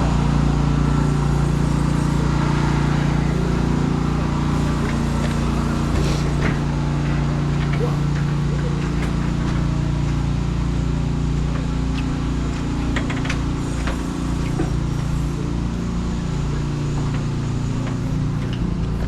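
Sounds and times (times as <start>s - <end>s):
road noise hiss: 0.0s - 19.0s
vehicle engine running: 0.0s - 19.0s.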